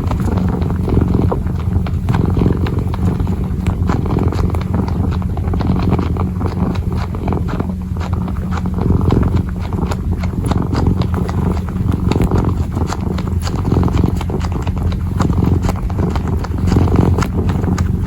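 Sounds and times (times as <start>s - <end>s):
claws clicking and scratching: 0.0s - 18.0s
kitten purring: 0.0s - 18.0s.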